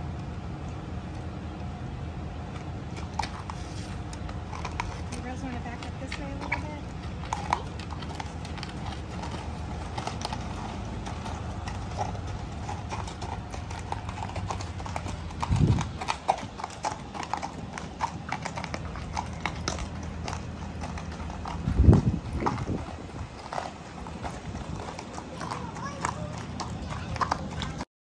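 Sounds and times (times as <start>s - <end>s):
hooves clip-clopping on gravel: 2.5s - 27.9s.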